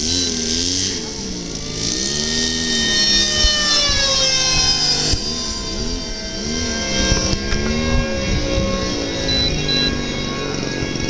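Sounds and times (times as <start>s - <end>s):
model jet flying overhead: 0.0s - 11.0s.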